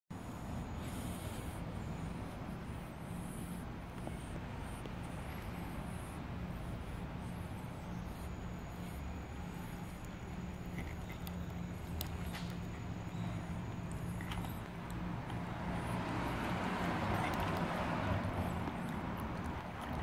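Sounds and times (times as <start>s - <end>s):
low mechanical hum: 0.1s - 20.0s.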